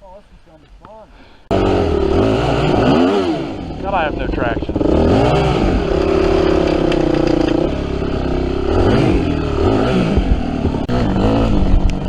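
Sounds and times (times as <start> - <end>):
motorcycle engine revving: 1.4 - 12.0.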